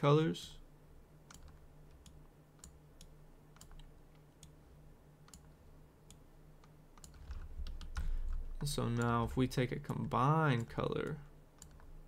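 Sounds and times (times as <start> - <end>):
faint low hum: 0.0 - 12.0
computer mouse clicking: 1.2 - 4.6, 5.2 - 12.0.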